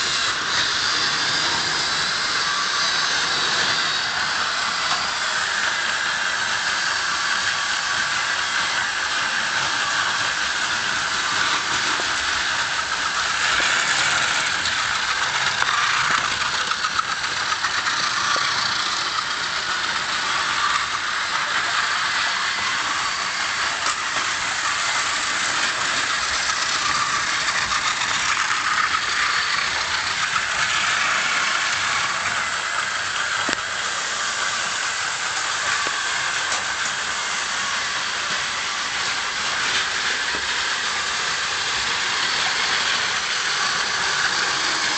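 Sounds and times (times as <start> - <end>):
toy train motors whirring: 0.0 - 44.9.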